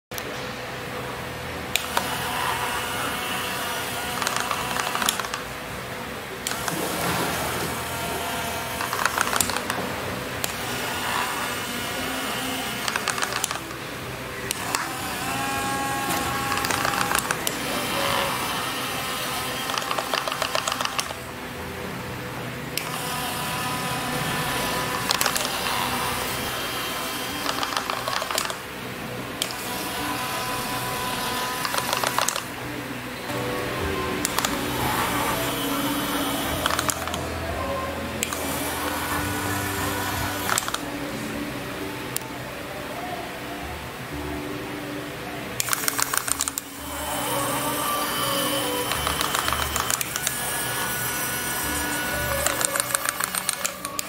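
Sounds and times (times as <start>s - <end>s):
instrumental background music: 6.4s - 54.0s.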